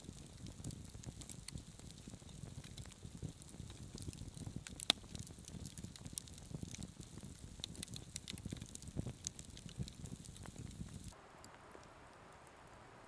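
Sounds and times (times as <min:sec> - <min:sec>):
campfire crackling and popping: 0:00.0 - 0:12.9.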